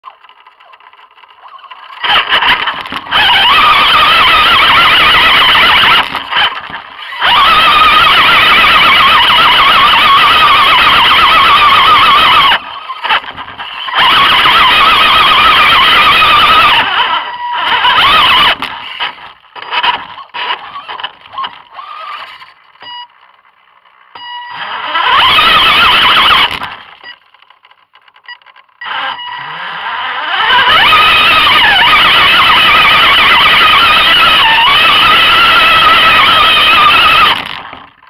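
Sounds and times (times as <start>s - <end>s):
electric motors whining: 0.2s - 22.6s, 24.2s - 27.0s, 28.8s - 37.9s.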